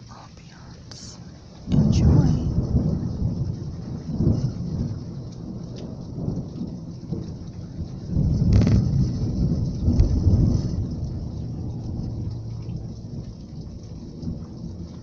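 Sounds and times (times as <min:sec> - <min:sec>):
heavy rain falling: 0:00.0 - 0:15.0
thunder rumbling: 0:00.0 - 0:15.0.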